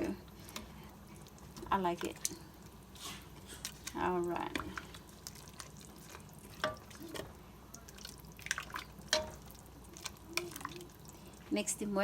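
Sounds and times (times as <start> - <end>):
soup sloshing in pot: 0.3 - 11.5.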